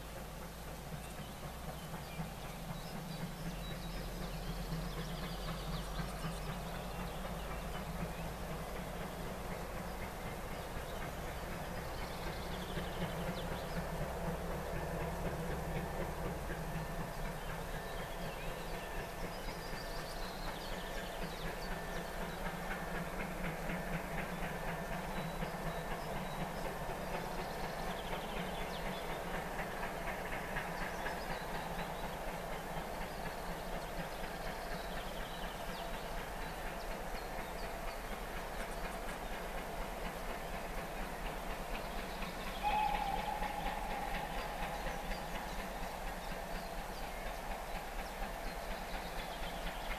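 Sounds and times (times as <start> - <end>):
distant steam train rumble: 0.0 - 49.9.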